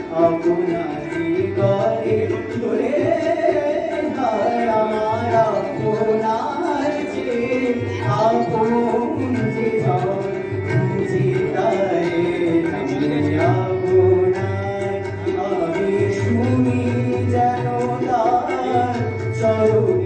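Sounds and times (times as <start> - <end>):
person singing into microphone: 0.0 - 20.0
tabla drumming: 0.0 - 20.0.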